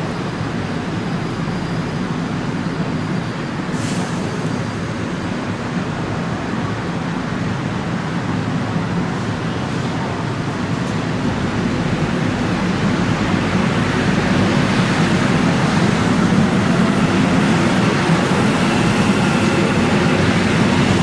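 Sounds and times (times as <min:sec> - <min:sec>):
train rumbling through station: 0:00.0 - 0:21.0.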